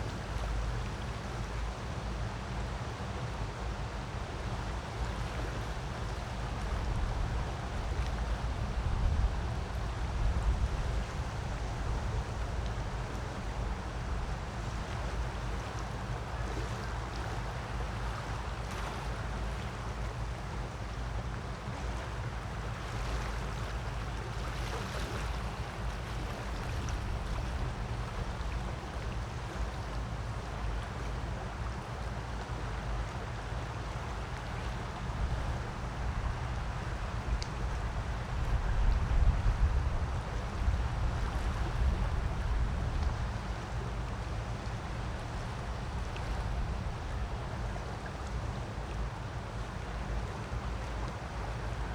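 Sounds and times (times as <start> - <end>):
creek water running: 0.0 - 51.9.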